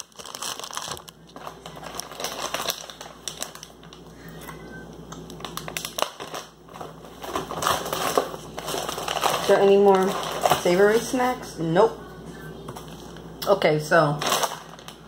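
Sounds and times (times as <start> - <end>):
snack wrappers rustling and crinkling: 0.0 - 11.4, 14.2 - 15.0.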